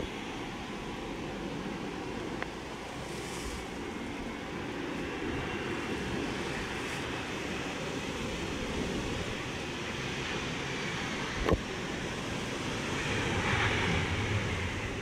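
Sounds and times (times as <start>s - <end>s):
faint jet engine whine: 0.0s - 15.0s
strong wind rushing over microphone: 0.0s - 15.0s.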